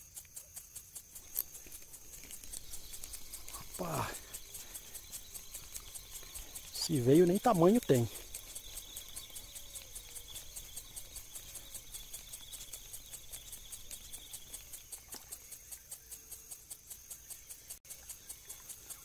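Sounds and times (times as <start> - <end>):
faint continuous insect trill: 0.0 - 19.0
insects chirping: 0.0 - 19.0.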